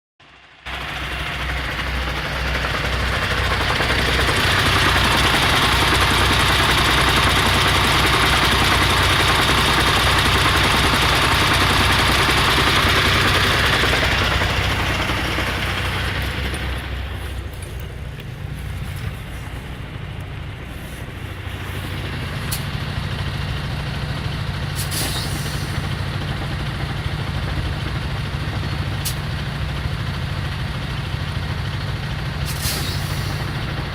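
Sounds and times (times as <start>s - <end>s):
truck idling: 0.2s - 33.9s.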